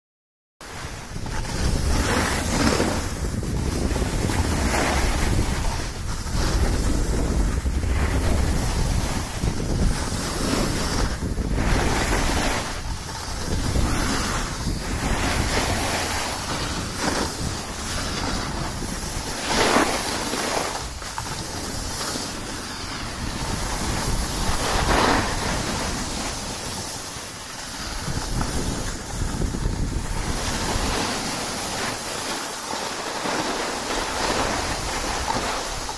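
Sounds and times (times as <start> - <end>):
skis scraping on snow: 0.6 - 35.9
wind on microphone: 0.6 - 35.9.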